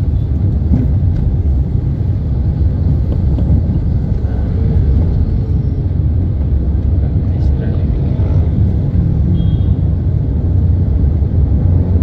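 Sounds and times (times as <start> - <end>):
car engine: 0.0 - 12.0
tyre-on-road noise: 0.0 - 12.0.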